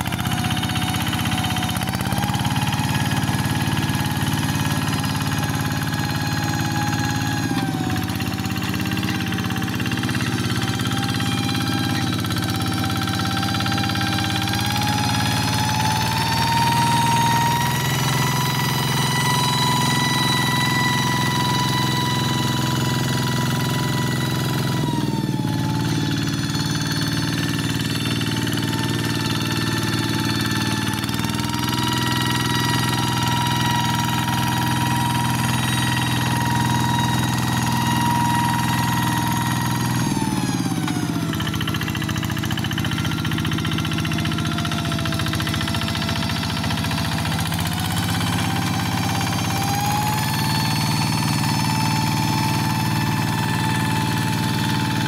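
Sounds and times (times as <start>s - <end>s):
diesel engine running under load: 0.0s - 55.0s
wheels churning through mud: 0.0s - 55.0s.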